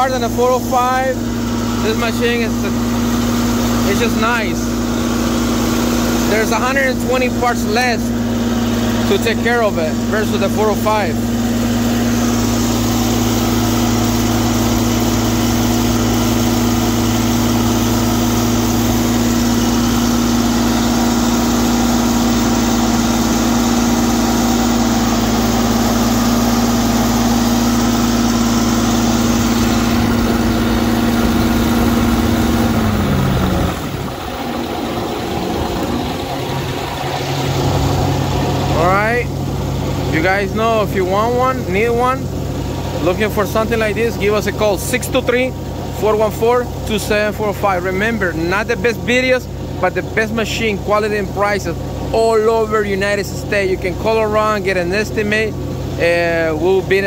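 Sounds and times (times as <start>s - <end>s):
engine hum: 0.0s - 57.0s.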